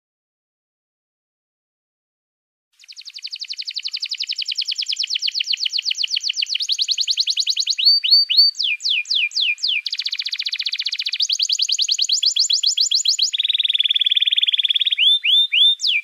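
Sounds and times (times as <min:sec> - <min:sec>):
songbird singing whistled trill: 0:02.8 - 0:16.0.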